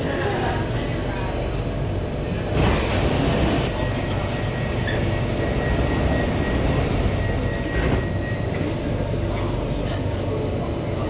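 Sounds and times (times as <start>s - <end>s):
metro car hum and rumble: 0.0s - 11.0s.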